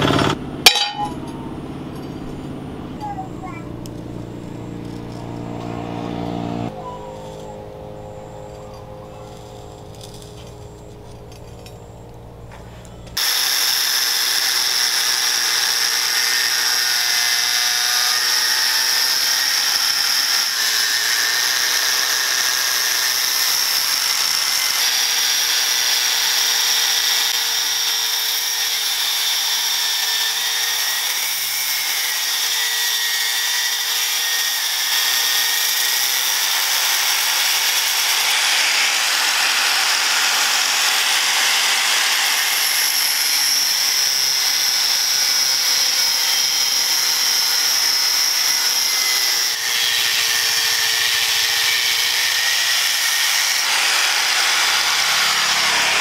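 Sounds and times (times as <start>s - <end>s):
angle grinder cutting steel: 0.0s - 2.1s, 3.9s - 12.3s, 13.0s - 56.0s.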